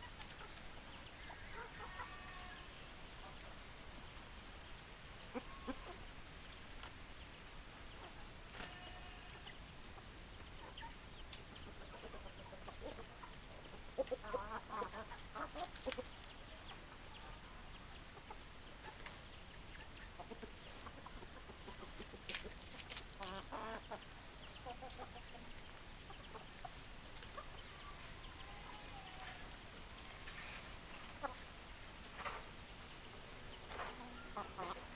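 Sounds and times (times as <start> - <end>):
chickens clucking: 0.0 - 7.0, 7.8 - 34.9.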